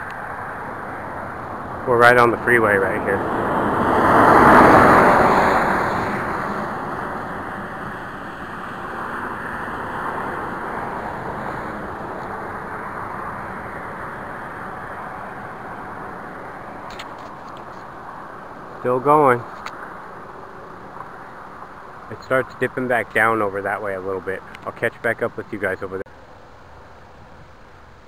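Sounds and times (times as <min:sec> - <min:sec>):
traffic road noise: 0:00.0 - 0:28.0
vehicle passing close: 0:00.0 - 0:28.0.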